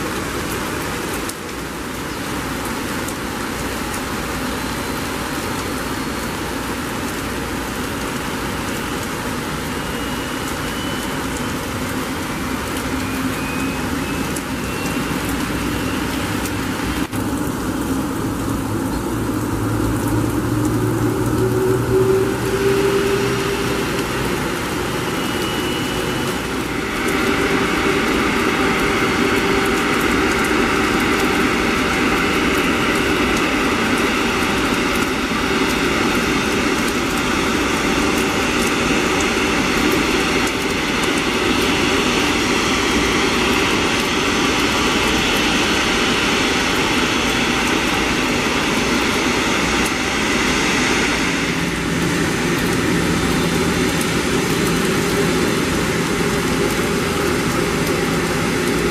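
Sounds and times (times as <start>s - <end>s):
jet engines running: 0.0s - 58.9s.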